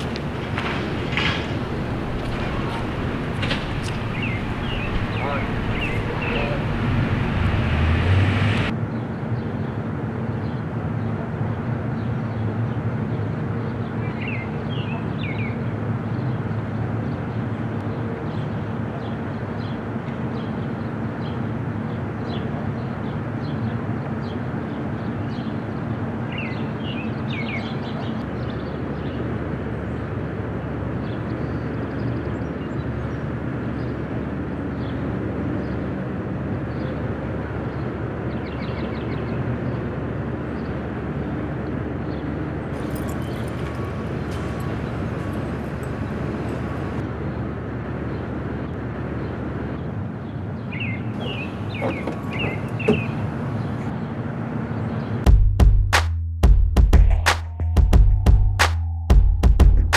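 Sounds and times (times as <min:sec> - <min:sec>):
traffic hum: 0:00.0 - 0:59.9.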